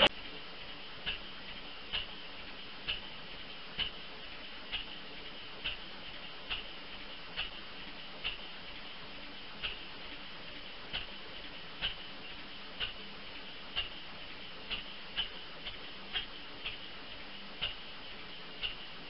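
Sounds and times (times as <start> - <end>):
sharp mechanical ticks: 0.0 - 4.0, 4.7 - 8.8, 9.6 - 12.1, 12.8 - 19.0.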